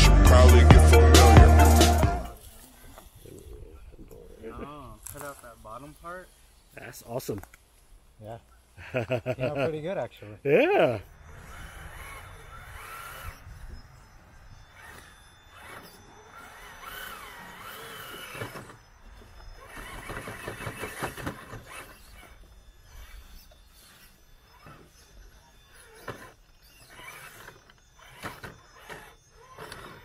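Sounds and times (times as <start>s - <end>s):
electric motor and gears whining: 0.0s - 30.0s.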